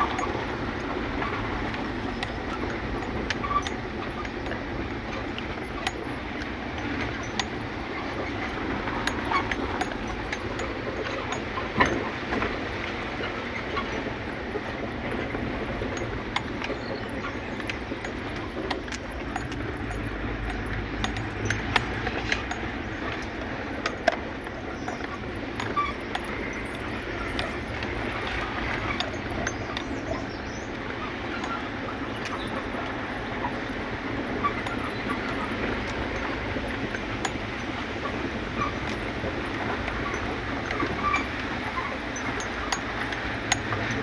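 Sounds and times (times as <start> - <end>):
moving vehicle rumble: 0.0 - 44.0
small clicks and rattles: 0.0 - 44.0.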